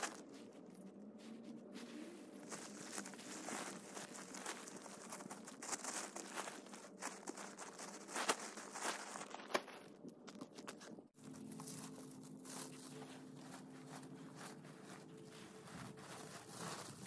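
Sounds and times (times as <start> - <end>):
leaves and paper bag rustling: 0.0 - 10.1, 11.1 - 17.0
faint steady hum: 0.0 - 17.0.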